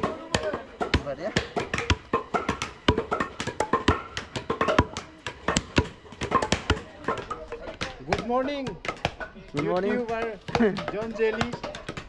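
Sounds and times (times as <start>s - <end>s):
wooden club pounding on wood: 0.0s - 12.0s.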